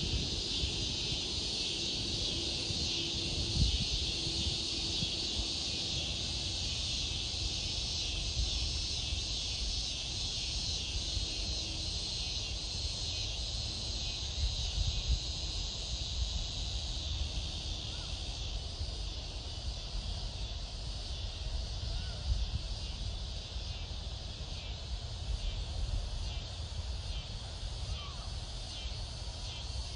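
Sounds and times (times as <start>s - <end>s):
shrill insect chorus: 0.0s - 29.9s.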